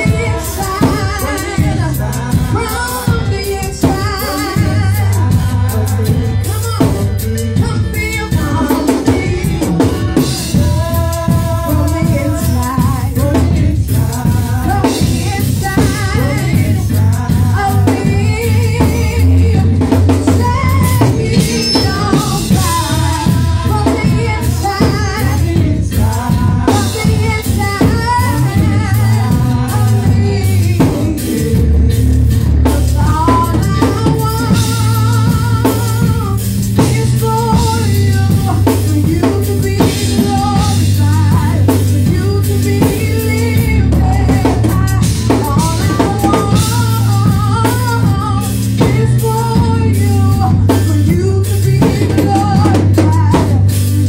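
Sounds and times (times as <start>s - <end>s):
gospel singers with drums and bass: 0.0s - 54.0s.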